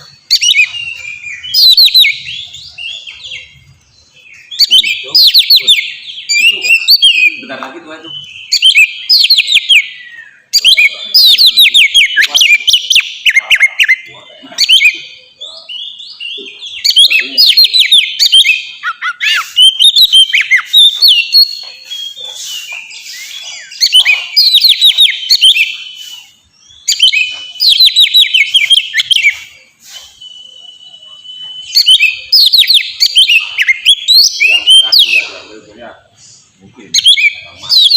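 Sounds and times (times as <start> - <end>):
songbird whistles and trills: 0.0 - 37.9.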